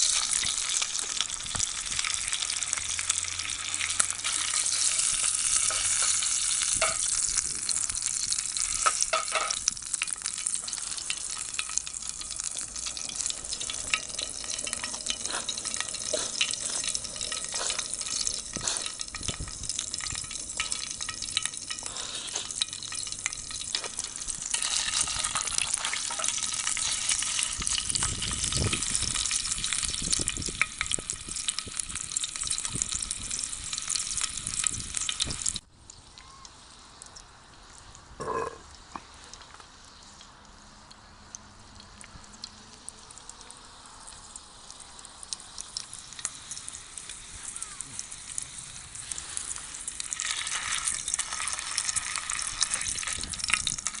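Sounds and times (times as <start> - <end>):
food sizzling in a pan: 0.0 - 39.2, 41.9 - 54.0.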